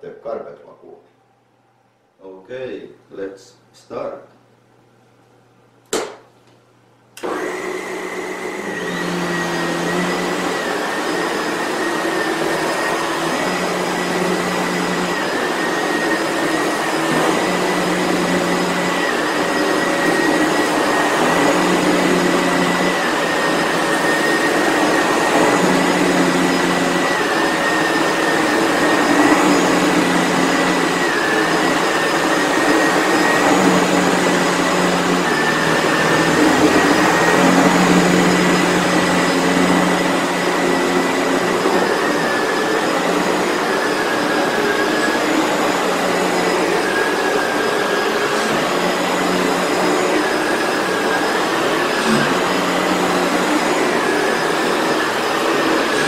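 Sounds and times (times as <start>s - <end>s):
vacuum cleaner high whine: 7.2s - 56.0s.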